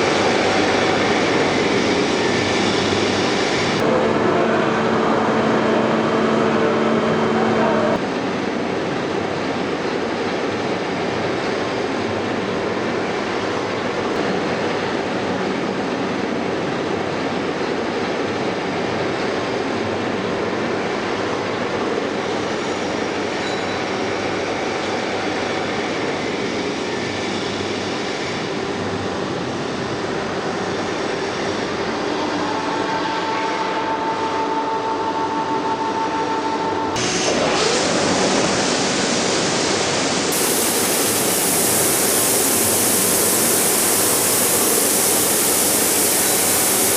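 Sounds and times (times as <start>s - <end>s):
machinery hiss and rumble: 0.0s - 34.2s, 37.0s - 46.9s.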